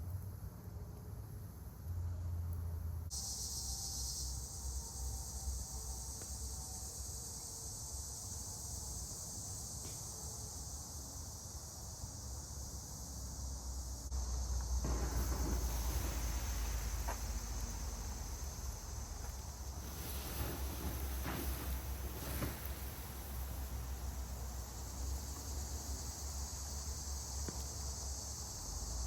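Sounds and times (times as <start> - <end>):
insect chorus chirring: 3.1 - 29.0.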